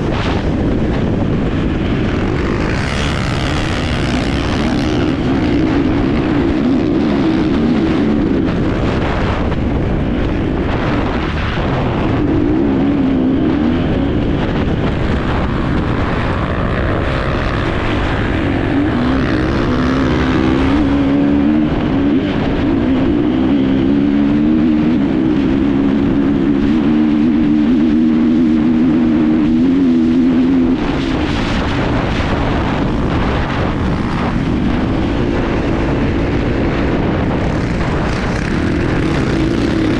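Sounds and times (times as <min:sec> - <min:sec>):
dirt bike engine running: 0:00.0 - 0:39.9
steady rush of noise: 0:00.0 - 0:39.9.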